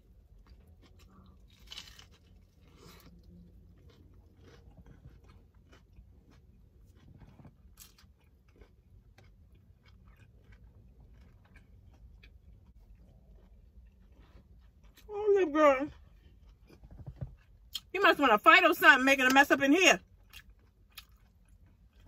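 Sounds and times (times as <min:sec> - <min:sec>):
person chewing: 0:00.0 - 0:17.9, 0:20.0 - 0:22.0.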